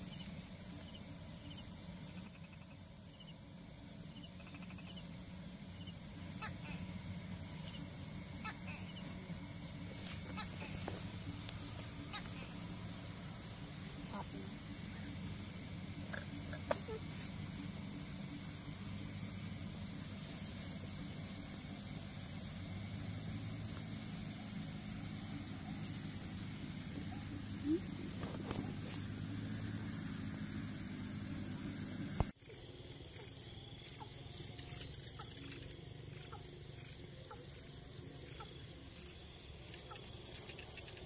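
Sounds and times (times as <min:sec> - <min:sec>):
constant low hum: 0:00.0 - 0:41.0
night insect chorus: 0:00.0 - 0:41.0.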